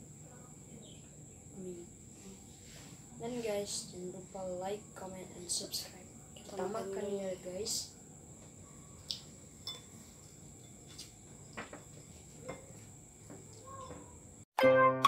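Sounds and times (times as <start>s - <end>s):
steady high-pitched whine: 0.0s - 13.4s.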